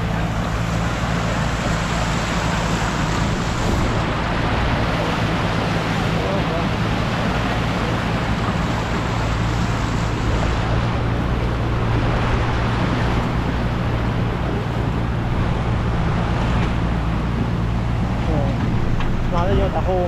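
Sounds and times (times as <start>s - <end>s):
floodwater rushing: 0.0s - 20.0s
low engine hum: 0.0s - 20.0s.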